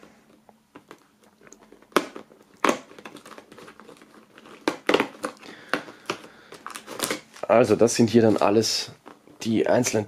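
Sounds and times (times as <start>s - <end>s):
foil crinkling: 0.3s - 9.9s.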